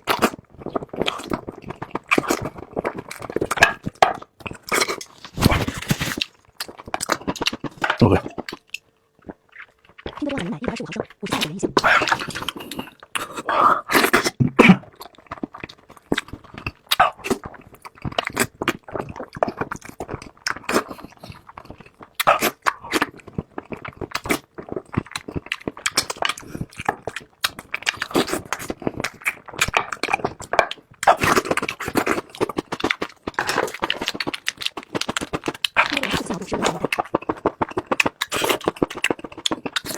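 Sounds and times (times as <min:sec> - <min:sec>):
chewing and biting meat: 0:00.0 - 0:39.9.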